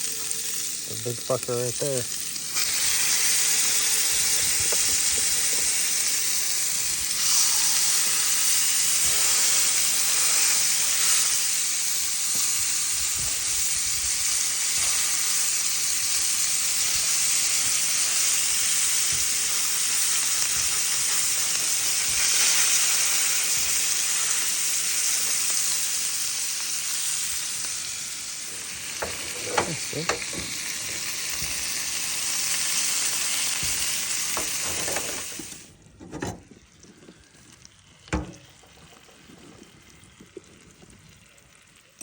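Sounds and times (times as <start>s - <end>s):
burger patties sizzling: 0.0s - 42.0s.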